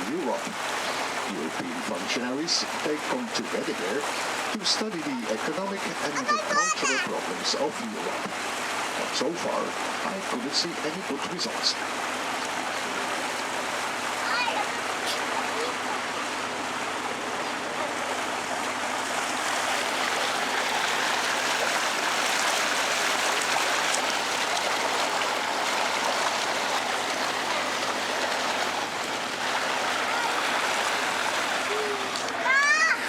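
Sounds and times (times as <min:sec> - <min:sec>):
water rushing and splashing: 0:00.0 - 0:33.0.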